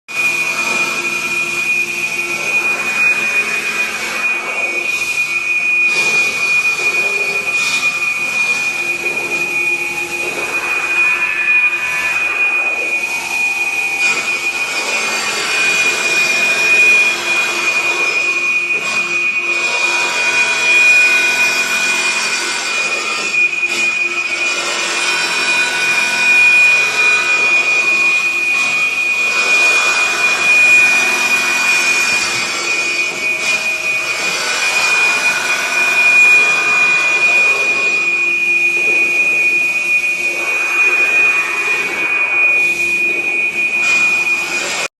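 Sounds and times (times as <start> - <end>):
stone saw high-pitched whine: 0.1 - 44.9.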